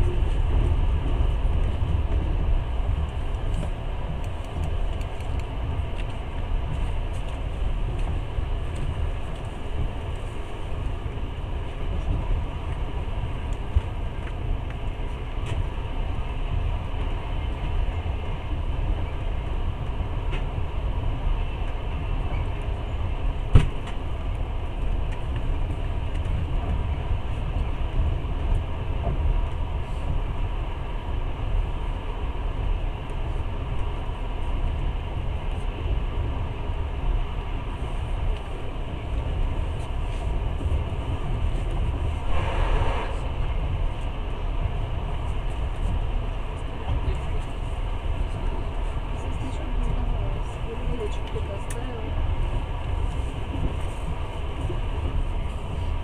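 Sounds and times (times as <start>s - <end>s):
train rumbling inside carriage: 0.0s - 56.0s.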